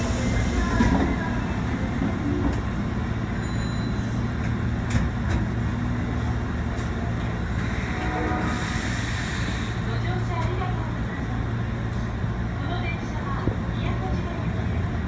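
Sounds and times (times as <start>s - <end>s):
subway car hum and rumble: 0.0s - 15.0s.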